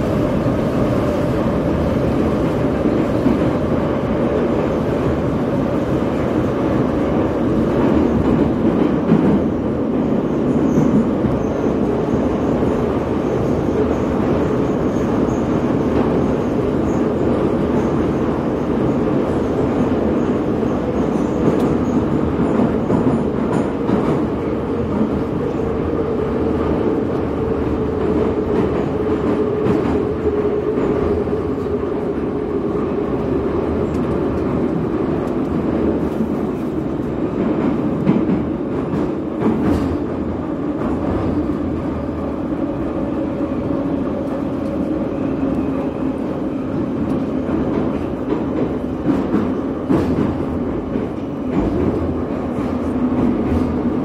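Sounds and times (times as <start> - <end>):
train humming tone: 0.0 - 54.0
train wheels rumbling on rails: 0.0 - 54.0.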